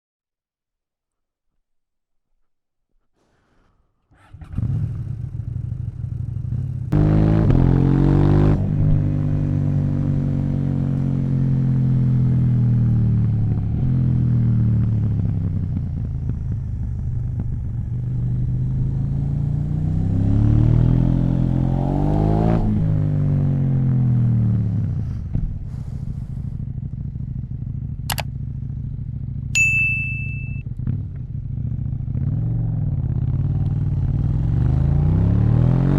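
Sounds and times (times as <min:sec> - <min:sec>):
motorcycle engine idling and revving: 0:04.2 - 0:35.9.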